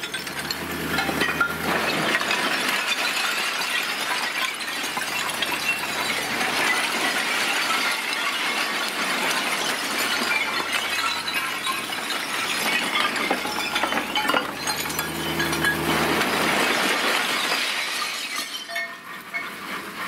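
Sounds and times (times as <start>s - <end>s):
stone rubble clattering from dump truck: 0.0s - 20.0s.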